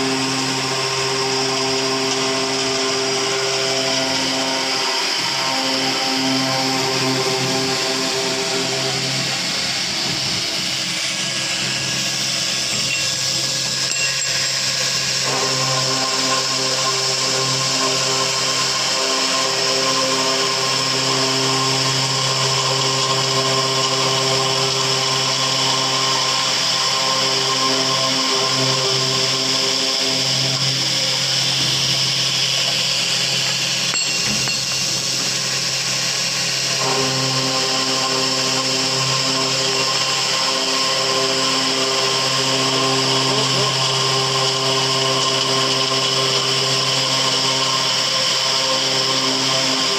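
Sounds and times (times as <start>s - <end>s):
circular saw cutting: 0.0s - 49.9s.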